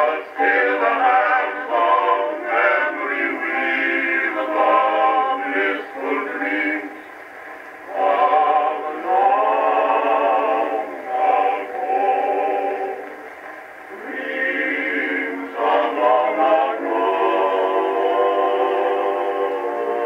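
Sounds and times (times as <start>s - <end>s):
male vocal quartet singing: 0.0s - 7.2s, 7.8s - 20.0s.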